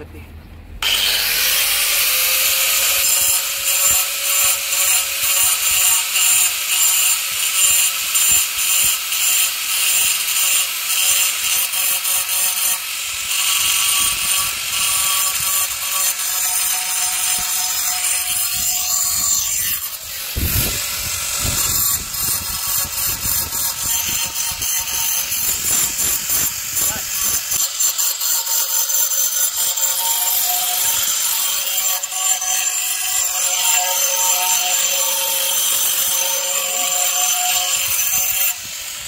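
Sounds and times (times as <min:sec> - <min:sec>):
angle grinder grinding stone: 0:00.8 - 0:39.0.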